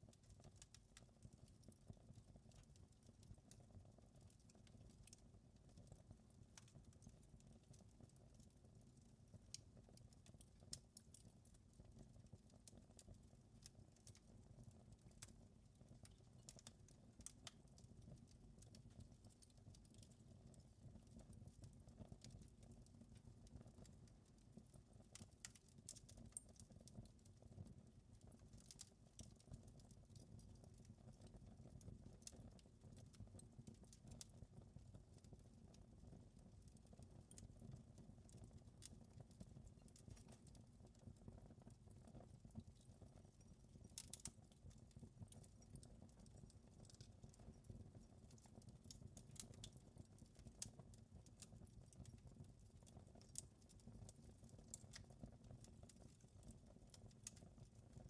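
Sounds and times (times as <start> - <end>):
faint wood fire crackling: 0.0 - 58.0.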